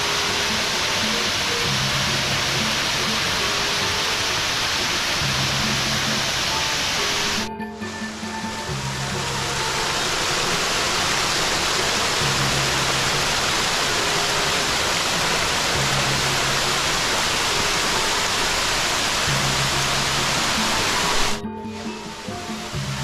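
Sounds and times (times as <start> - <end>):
background music with bass: 0.0 - 23.0
waterfall roaring: 0.0 - 23.0.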